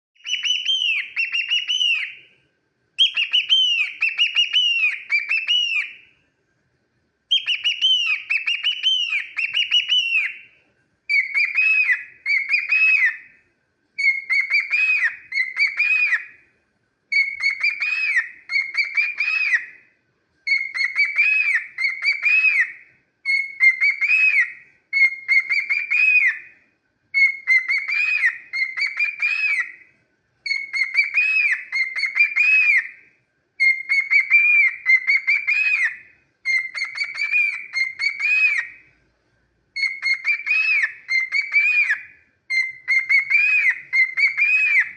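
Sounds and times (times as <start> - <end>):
cockatiel whistling: 0.2 - 2.2, 3.0 - 6.1, 7.3 - 10.5, 11.1 - 13.4, 14.0 - 16.4, 17.1 - 33.0, 33.6 - 38.8, 39.8 - 44.9.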